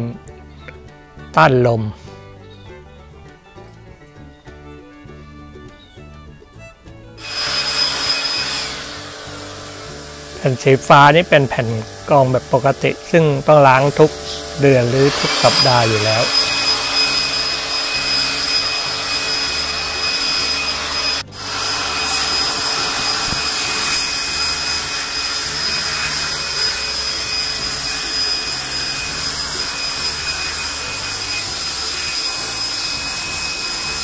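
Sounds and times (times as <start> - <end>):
electric blower running: 6.7 - 34.0.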